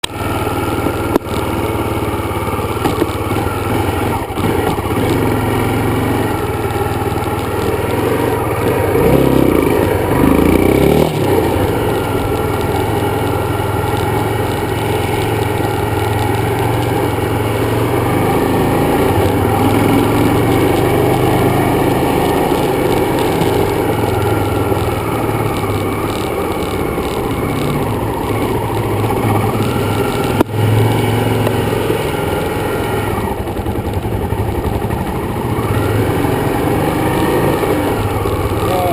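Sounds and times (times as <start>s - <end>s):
dirt bike engine revving: 0.1s - 38.9s.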